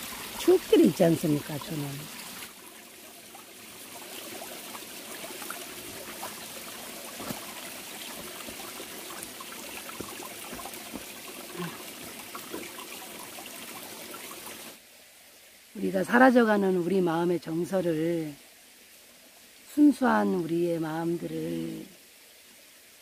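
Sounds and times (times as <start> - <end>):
stream trickling and splashing: 0.0 - 23.0.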